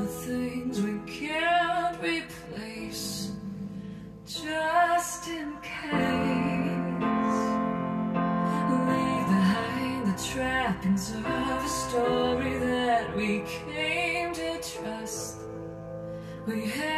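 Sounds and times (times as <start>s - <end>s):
woman singing song: 0.0s - 16.9s.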